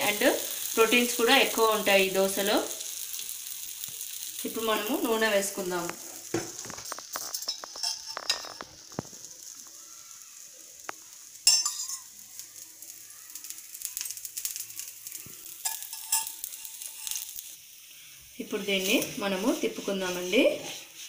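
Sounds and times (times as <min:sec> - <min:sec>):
batter sizzling on a hot griddle: 0:00.0 - 0:21.0.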